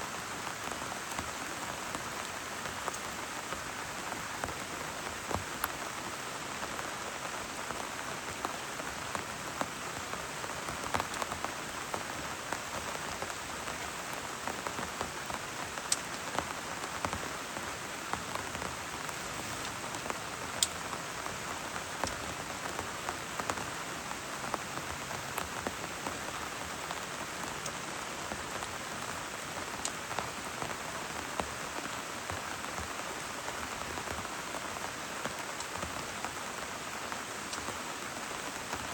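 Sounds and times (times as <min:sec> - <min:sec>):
steady rain hissing: 0:00.0 - 0:38.9
raindrops ticking: 0:00.3 - 0:06.8, 0:07.6 - 0:38.9.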